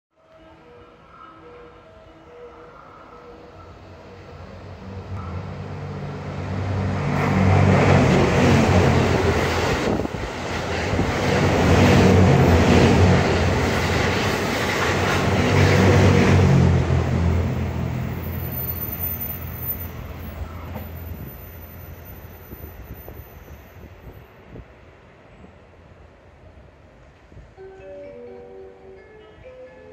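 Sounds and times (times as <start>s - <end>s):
rail noise: 0.2s - 29.9s
train engine drone: 0.2s - 29.9s.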